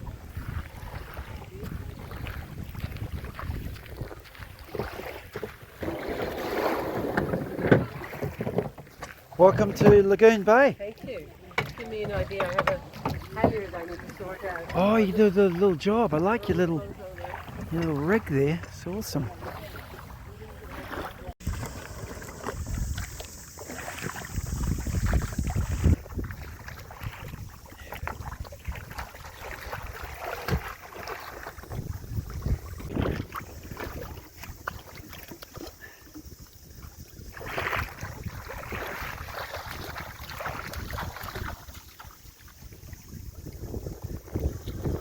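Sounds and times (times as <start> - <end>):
wind buffeting microphone: 0.0 - 5.7, 11.8 - 30.7, 31.5 - 35.1, 35.8 - 41.8, 42.5 - 45.0
water around a boat: 0.0 - 45.0.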